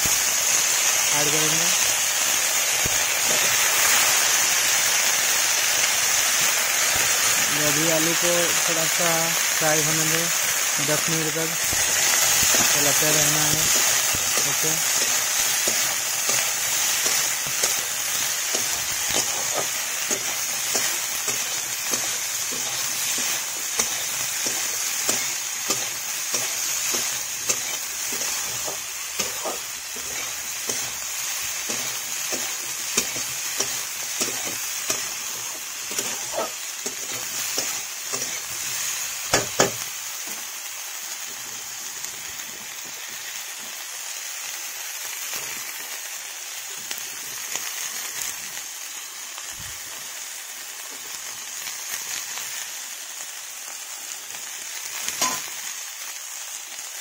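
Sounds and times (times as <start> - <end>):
vegetables sizzling in hot oil: 0.0 - 57.0.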